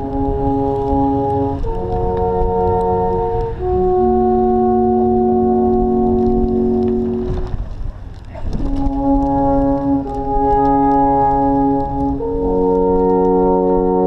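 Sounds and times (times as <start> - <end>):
alphorns playing held notes: 0.0 - 7.6, 8.6 - 14.0.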